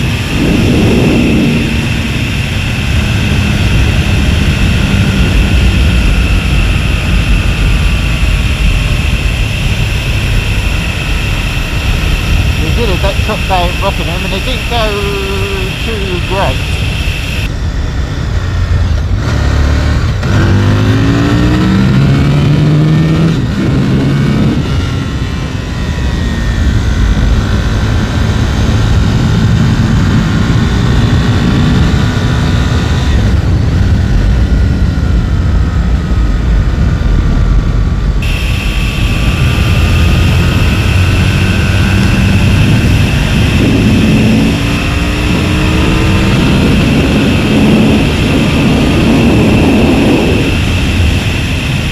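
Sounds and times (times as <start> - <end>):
motorcycle engine revving: 0.0 - 51.9
wind noise: 0.0 - 51.9.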